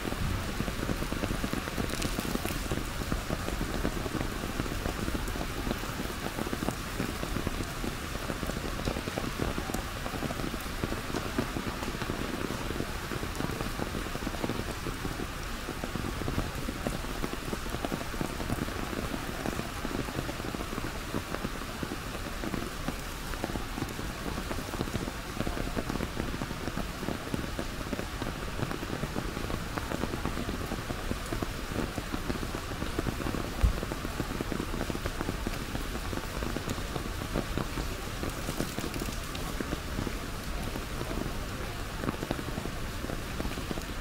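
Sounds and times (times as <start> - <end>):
rain pattering on umbrella: 0.0 - 44.0.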